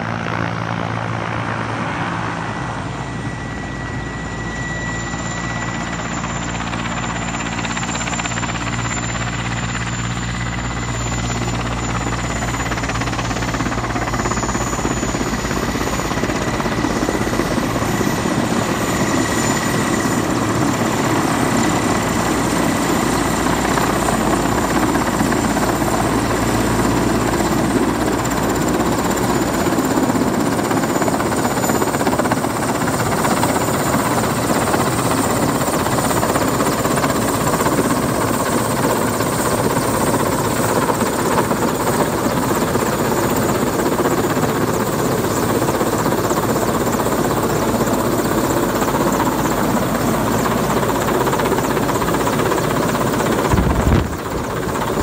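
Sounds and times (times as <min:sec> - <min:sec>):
helicopter hovering overhead: 0:00.0 - 0:55.0.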